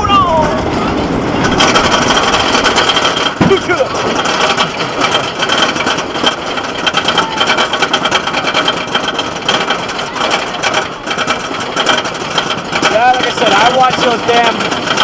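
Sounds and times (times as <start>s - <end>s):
rapid mechanical clatter: 0.0s - 15.0s.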